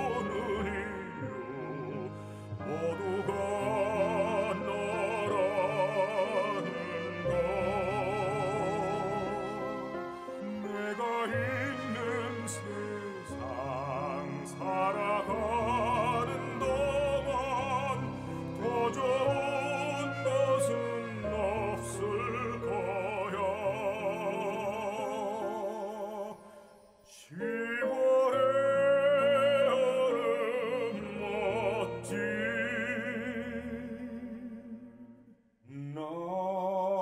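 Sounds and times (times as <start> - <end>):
orchestral accompaniment: 0.0 - 26.8, 27.4 - 34.7
operatic singing: 0.0 - 37.0.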